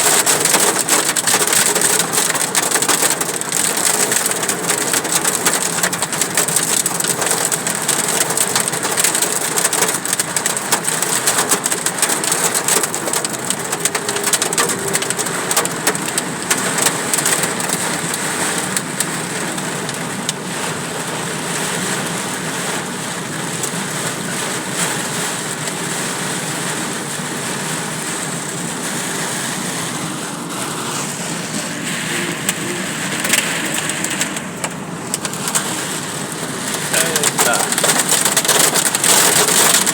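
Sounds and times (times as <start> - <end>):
hail drumming on car: 0.0 - 39.9
rain rushing: 0.0 - 39.9.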